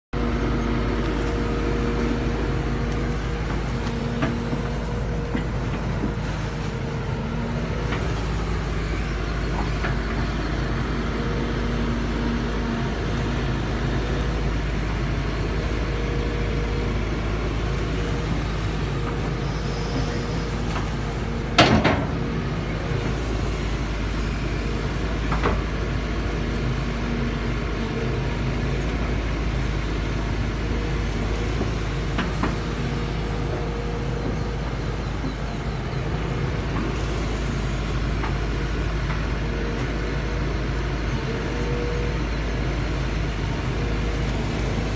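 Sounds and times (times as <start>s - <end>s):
excavator engine hum: 0.1s - 44.9s.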